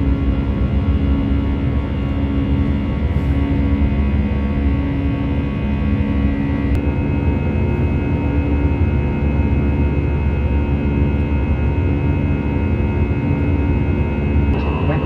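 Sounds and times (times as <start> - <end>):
jet engine cabin rumble: 0.0 - 15.0
steady humming tones: 0.0 - 15.0.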